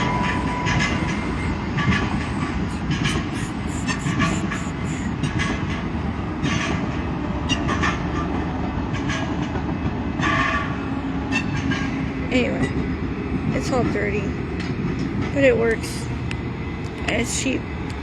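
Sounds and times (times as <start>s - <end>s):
passenger train rumbling on tracks: 0.0s - 18.0s.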